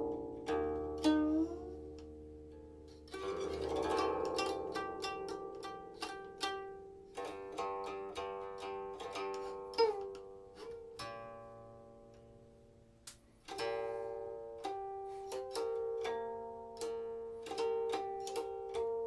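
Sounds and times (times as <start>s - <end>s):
plucked zither notes: 0.0s - 19.0s.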